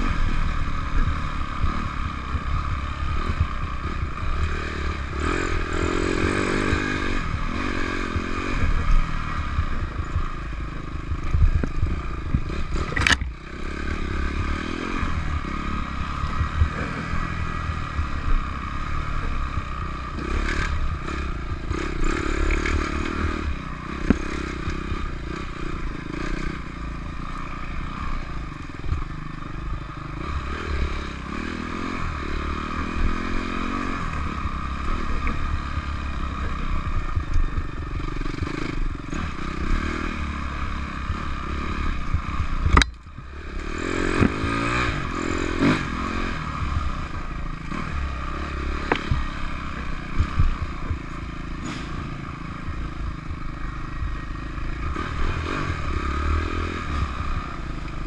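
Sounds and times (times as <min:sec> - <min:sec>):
bike rattling: 0:00.0 - 0:58.0
dirt bike engine revving: 0:00.0 - 0:58.0.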